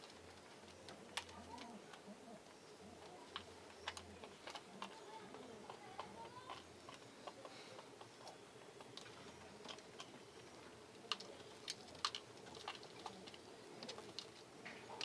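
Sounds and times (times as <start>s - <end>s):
pigeons pecking on concrete: 0.0s - 15.0s.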